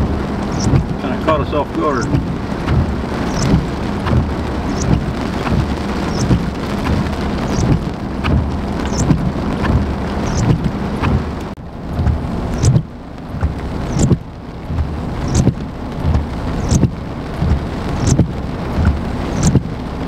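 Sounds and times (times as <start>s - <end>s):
heavy rain downpour: 0.0s - 20.0s
knocks of raindrops: 0.0s - 20.0s.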